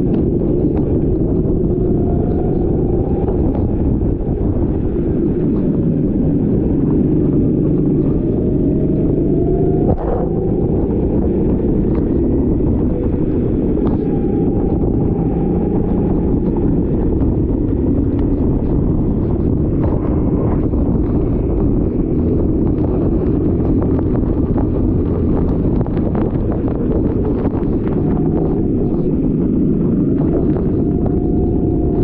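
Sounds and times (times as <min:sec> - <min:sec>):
kart engine running hard: 0:00.0 - 0:32.0
wind rumble on microphone: 0:00.0 - 0:32.0.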